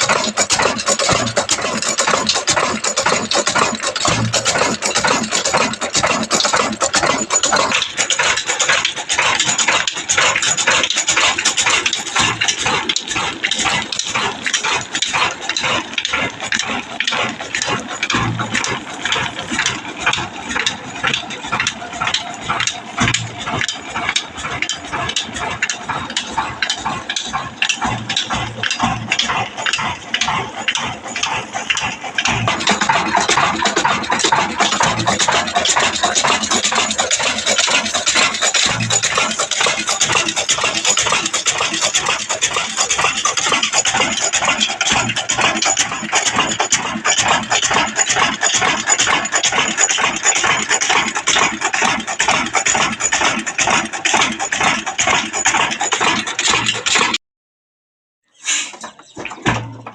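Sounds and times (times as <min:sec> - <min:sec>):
diesel engine running: 0:00.0 - 0:57.2.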